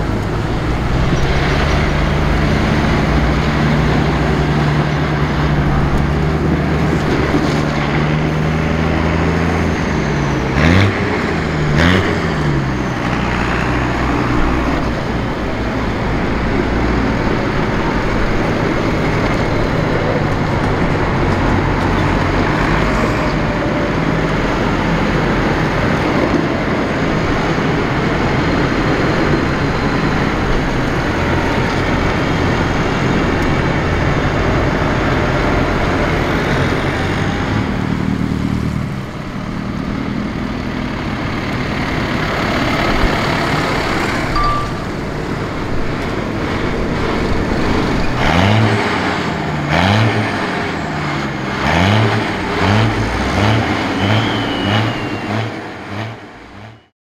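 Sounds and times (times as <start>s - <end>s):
tractor diesel engines running: 0.0s - 56.9s
tractor engines revving: 0.0s - 56.9s.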